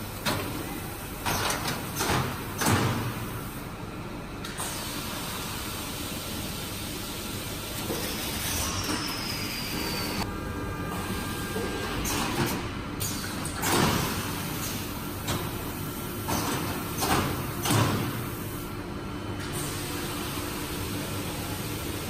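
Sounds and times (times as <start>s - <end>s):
steady machine hum: 2.2s - 22.0s.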